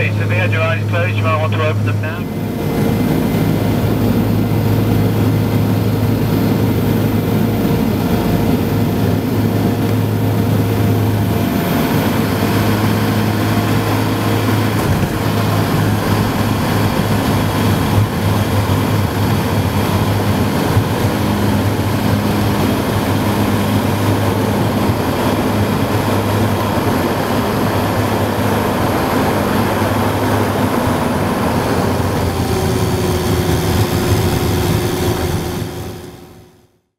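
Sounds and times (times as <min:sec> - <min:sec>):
turboprop engines droning: 0:00.0 - 0:36.9.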